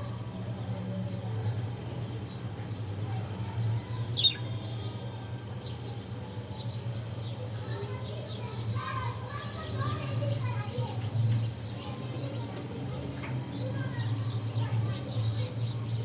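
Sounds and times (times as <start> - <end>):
small birds chirping: 1.0 - 16.0.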